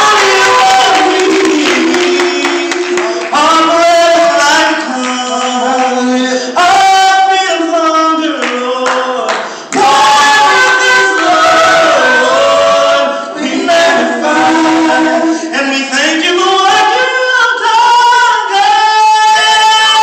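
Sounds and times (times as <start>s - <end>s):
male vocal group singing: 0.0s - 20.0s.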